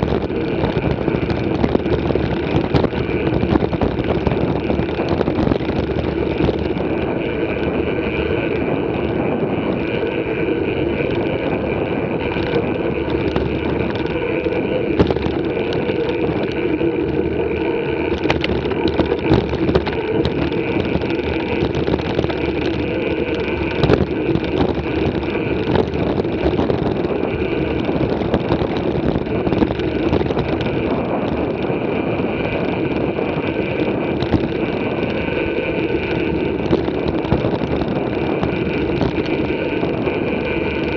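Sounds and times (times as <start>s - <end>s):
bike clicks and rattles: 0.0s - 40.9s
tyres rolling on gravel: 0.0s - 40.9s.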